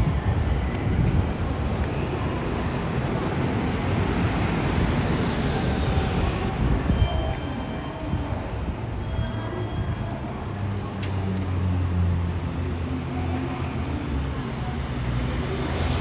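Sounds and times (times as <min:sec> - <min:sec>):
rumble of street traffic: 0:00.0 - 0:16.0.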